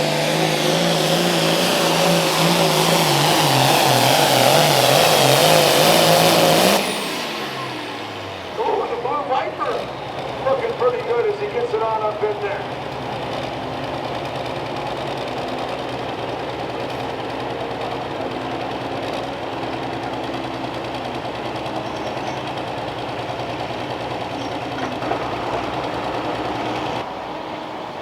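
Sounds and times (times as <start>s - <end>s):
tractor diesel engine running hard: 0.0s - 28.0s.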